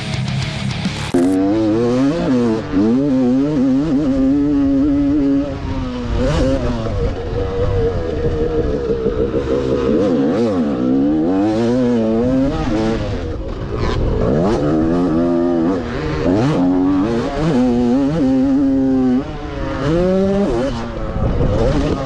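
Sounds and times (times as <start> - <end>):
dirt bike engine revving: 0.0 - 22.0
wind and track noise: 0.0 - 22.0.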